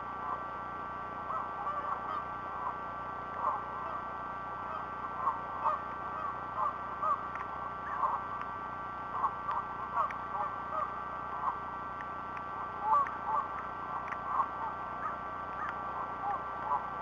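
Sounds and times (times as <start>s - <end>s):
birds calling: 0.0s - 17.0s
faint steady tones: 0.0s - 17.0s
steady background hiss: 0.0s - 17.0s.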